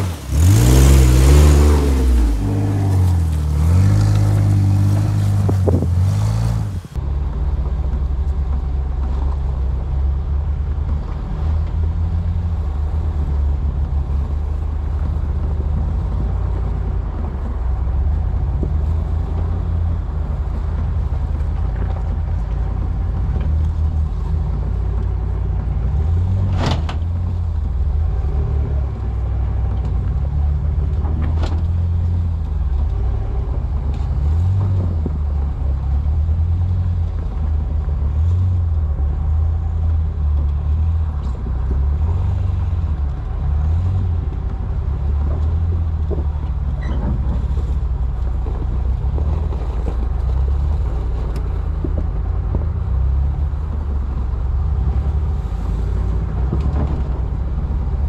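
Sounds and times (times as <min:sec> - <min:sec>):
jeep engine revving: 0:00.0 - 0:58.0.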